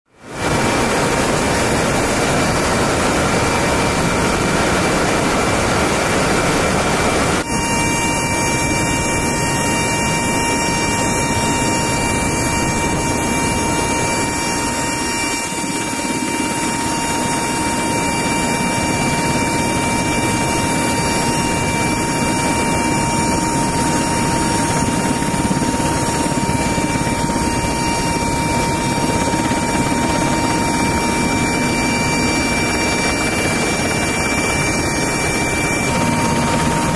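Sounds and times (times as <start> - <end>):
high even whine: 0.1 - 36.9
rushing wind: 0.1 - 36.9
turboprop engines droning: 0.1 - 36.9.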